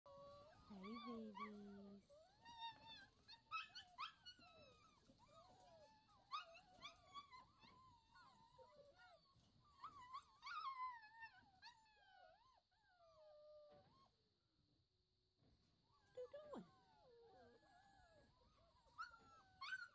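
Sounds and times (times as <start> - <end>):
puppies whining and yelping: 0.1 - 14.4, 15.5 - 19.9.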